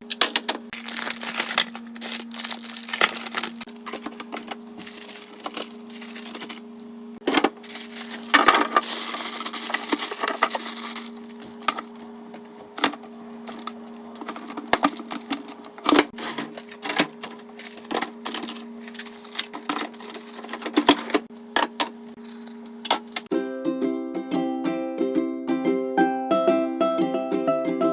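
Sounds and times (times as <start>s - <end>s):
steady low hum: 0.0s - 23.3s.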